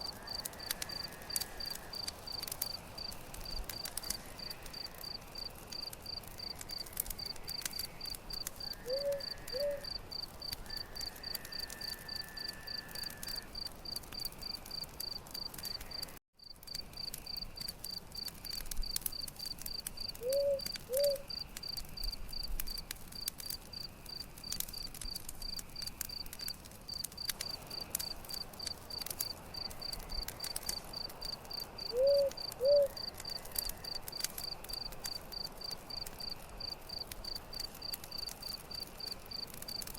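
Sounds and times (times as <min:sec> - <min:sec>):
cricket chirping: 0:00.0 - 0:39.9
wood fire crackling: 0:00.0 - 0:39.9.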